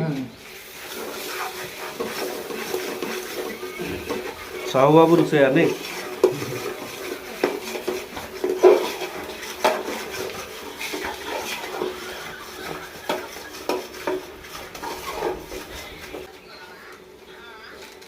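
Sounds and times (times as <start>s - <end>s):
metal ladle scraping a pot: 0.5s - 16.3s.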